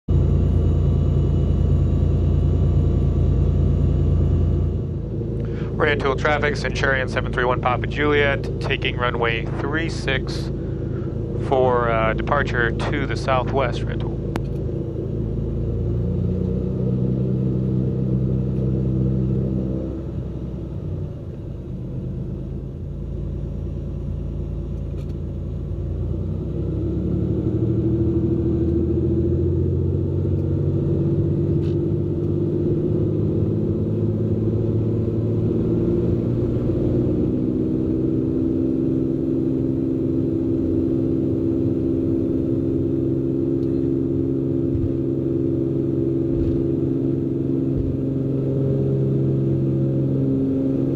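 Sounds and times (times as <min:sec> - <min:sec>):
propeller plane engine: 0:00.1 - 0:50.9.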